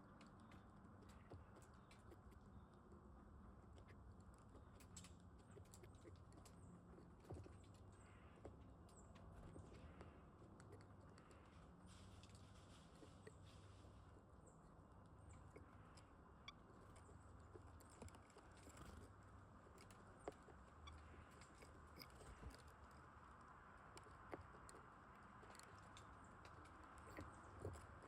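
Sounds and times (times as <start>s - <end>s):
birds pecking and cracking seeds: 0.0s - 28.0s.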